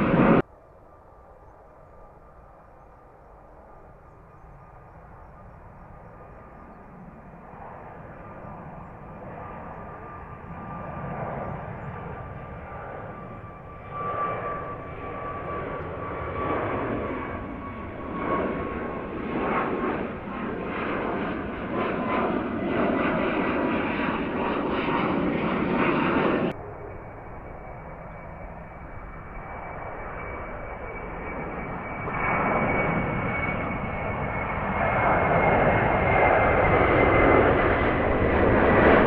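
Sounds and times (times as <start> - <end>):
jet airliner engine noise: 0.0 - 39.0.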